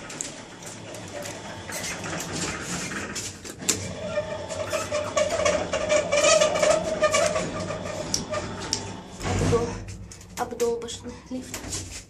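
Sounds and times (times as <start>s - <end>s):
lift humming: 0.0s - 10.0s.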